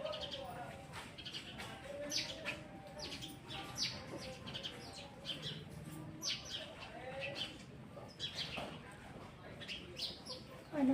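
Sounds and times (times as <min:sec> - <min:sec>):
sparrows chirping: 0:00.0 - 0:10.9.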